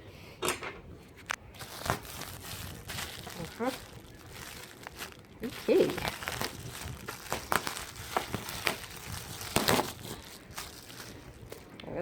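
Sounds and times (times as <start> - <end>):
packaging crinkling and rustling: 1.2 - 11.8.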